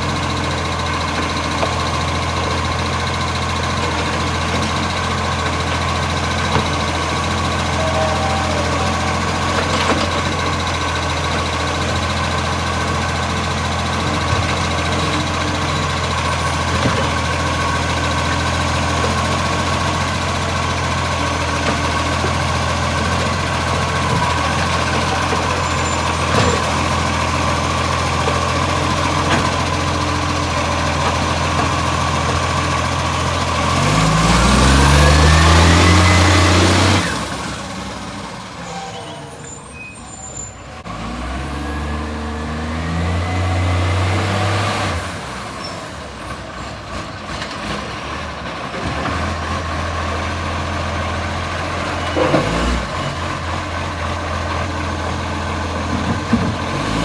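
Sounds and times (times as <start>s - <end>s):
truck engine idling: 0.0s - 41.1s, 44.9s - 57.0s.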